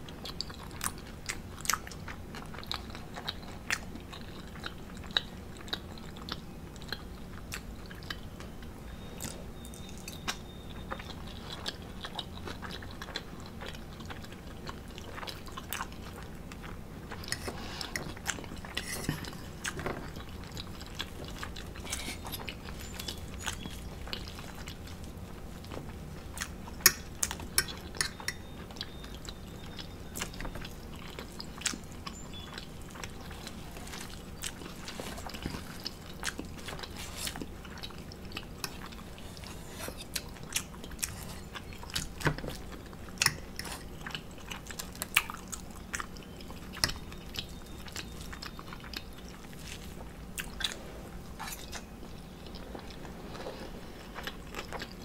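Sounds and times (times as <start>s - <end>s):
person chewing and biting: 9.2s - 53.4s.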